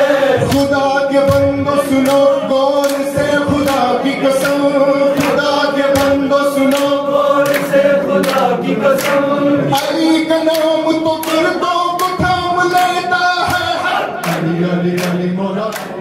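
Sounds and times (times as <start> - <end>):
men singing together: 0.0 - 16.0
hand claps: 0.4 - 16.0.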